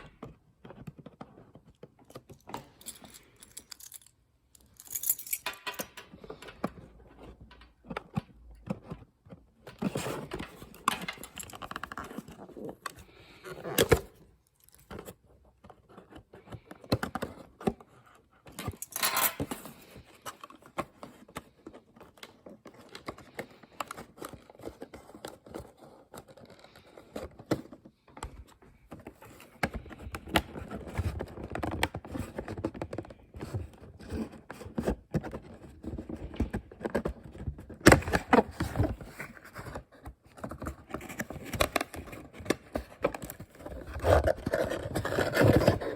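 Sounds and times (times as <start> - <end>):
packaging rustling and scraping: 0.0 - 45.9.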